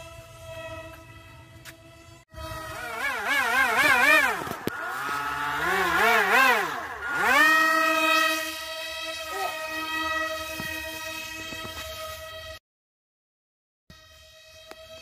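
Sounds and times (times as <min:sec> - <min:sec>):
electric motor and propeller whining: 0:00.0 - 0:12.6, 0:13.9 - 0:15.0.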